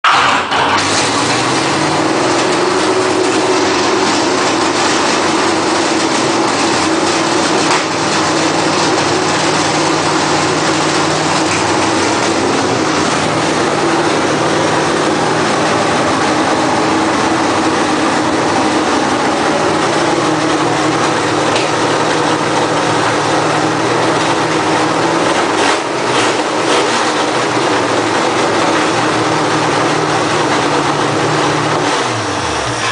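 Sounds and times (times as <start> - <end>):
car engine running steadily: 0.1 - 32.9.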